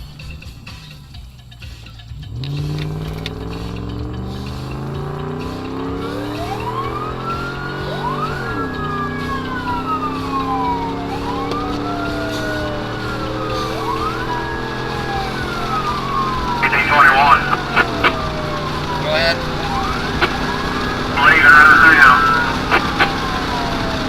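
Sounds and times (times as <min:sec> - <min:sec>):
vehicle engine accelerating: 0:00.0 - 0:16.7, 0:17.5 - 0:21.2, 0:22.3 - 0:24.0
siren wailing: 0:03.4 - 0:24.0.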